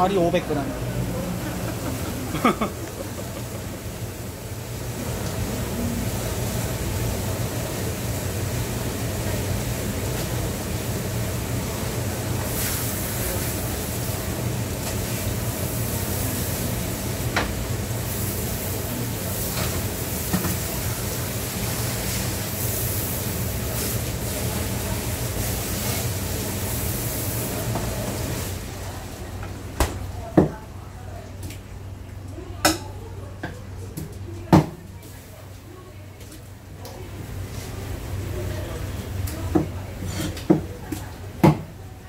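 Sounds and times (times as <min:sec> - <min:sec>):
steady mechanical hum: 0:00.0 - 0:42.0.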